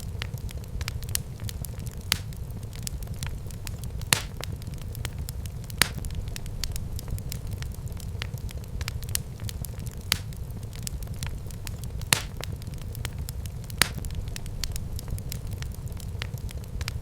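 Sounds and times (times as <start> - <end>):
fire popping and crackling: 0.0 - 17.0
low rumble of flames: 0.0 - 17.0.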